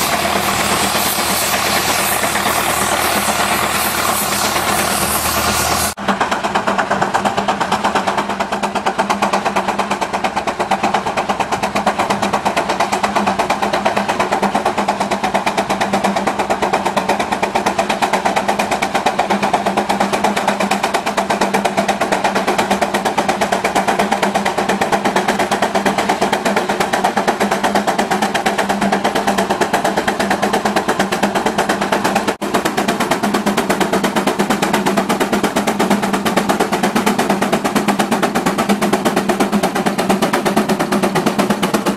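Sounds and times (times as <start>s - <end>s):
steam traction engine working: 0.0s - 41.9s.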